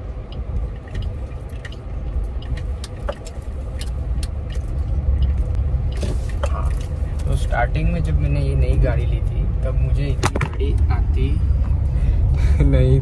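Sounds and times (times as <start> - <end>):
car road and engine rumble: 0.0 - 13.0
light ticks and rattles: 0.2 - 11.0.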